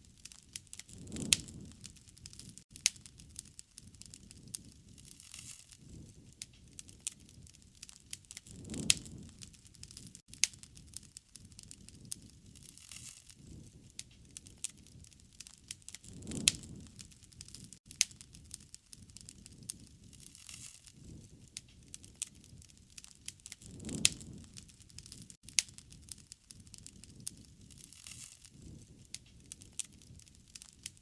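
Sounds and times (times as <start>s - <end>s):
campfire crackling: 0.0s - 31.0s
fire popping and snapping: 0.0s - 31.0s
low rumble of flames: 0.0s - 31.0s.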